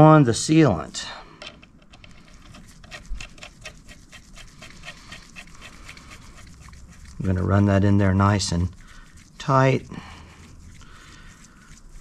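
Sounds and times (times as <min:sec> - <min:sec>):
animal panting rapidly: 0:02.3 - 0:12.0.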